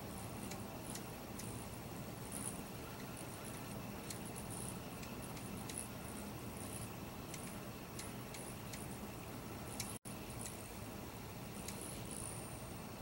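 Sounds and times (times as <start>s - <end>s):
hummingbird chip notes: 0.0s - 13.0s
low background hum: 0.0s - 13.0s.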